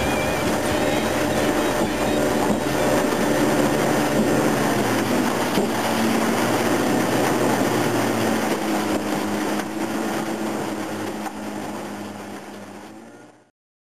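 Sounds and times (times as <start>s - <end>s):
wind and water hiss: 0.0s - 13.3s
boat motor running: 0.0s - 13.5s.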